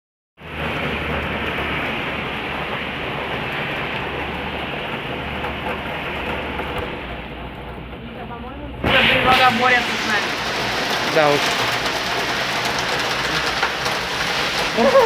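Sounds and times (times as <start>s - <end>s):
rain hissing: 0.4s - 15.0s.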